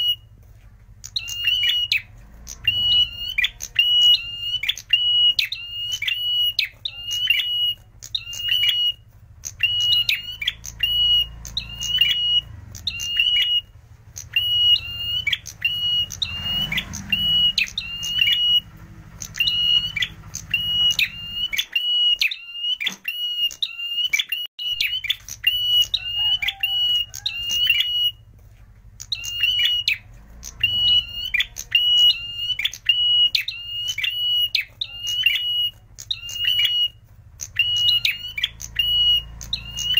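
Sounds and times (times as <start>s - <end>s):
bird singing sharp high notes: 1.0s - 28.2s, 29.0s - 39.9s.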